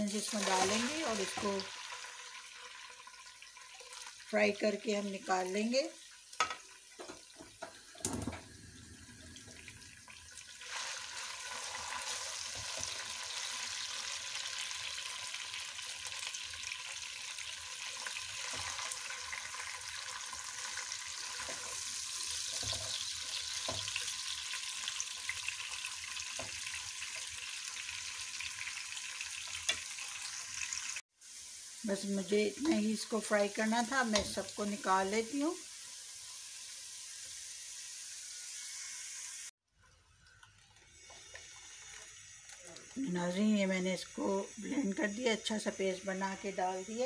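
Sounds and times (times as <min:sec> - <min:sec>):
onions and spices sizzling in ghee: 0:00.0 - 0:47.0.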